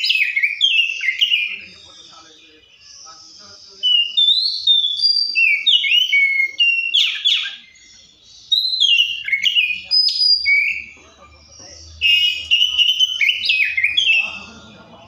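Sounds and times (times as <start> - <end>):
bird singing whistled phrases: 0.0 - 2.2, 2.8 - 11.0, 11.9 - 14.5.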